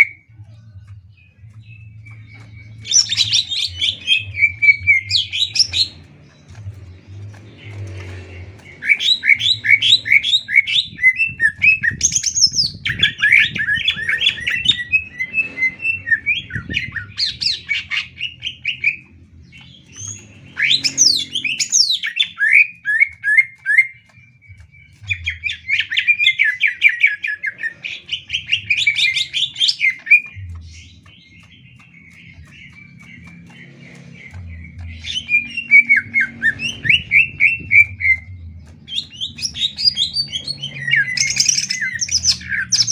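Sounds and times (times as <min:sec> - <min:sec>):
bird singing rapid high notes: 0:00.0 - 0:42.9.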